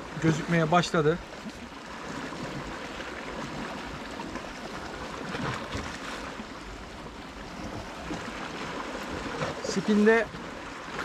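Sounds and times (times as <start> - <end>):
small waves lapping at shore: 0.0 - 11.0.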